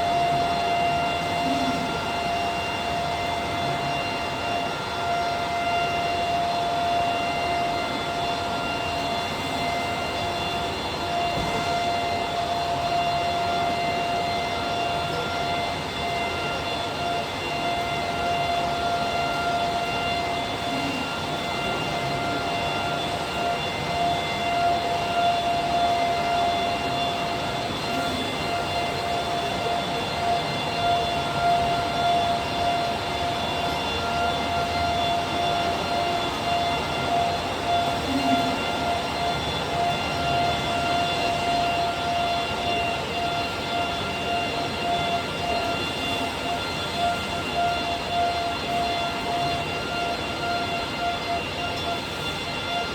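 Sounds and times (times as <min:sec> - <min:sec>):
wood-machining machine whining: 0:00.0 - 0:52.9.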